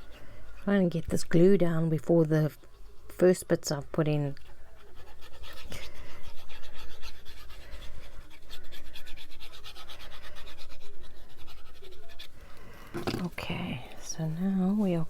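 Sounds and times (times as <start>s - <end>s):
rapid rubbing on paper: 0.0s - 13.2s.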